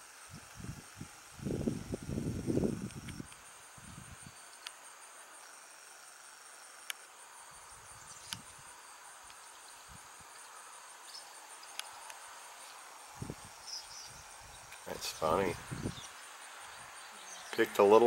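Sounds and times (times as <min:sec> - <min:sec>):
high-pitched insect trilling: 0:00.0 - 0:18.0.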